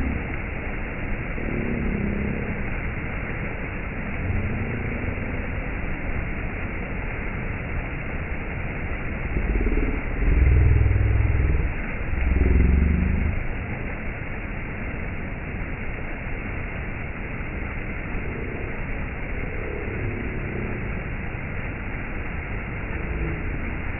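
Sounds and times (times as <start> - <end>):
low rumble with wavering drone: 0.0 - 23.9.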